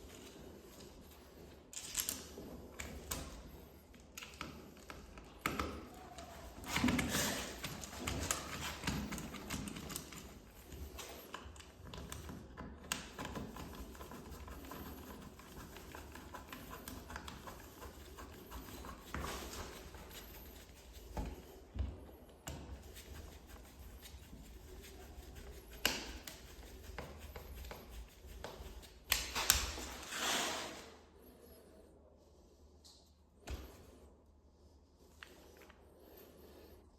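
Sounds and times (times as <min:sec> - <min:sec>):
faint rustling and handling: 0:00.0 - 0:36.9.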